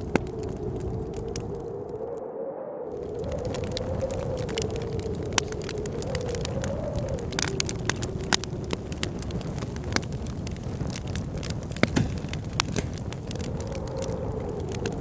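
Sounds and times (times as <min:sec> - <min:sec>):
wood fire crackling and popping: 0:00.0 - 0:02.0, 0:02.9 - 0:15.0
wind howling: 0:00.0 - 0:15.0.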